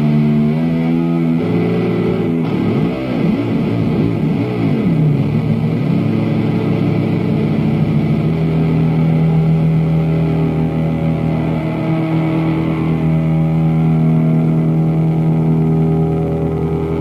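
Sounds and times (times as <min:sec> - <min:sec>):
distorted electric guitar sustained note: 0:00.0 - 0:17.0.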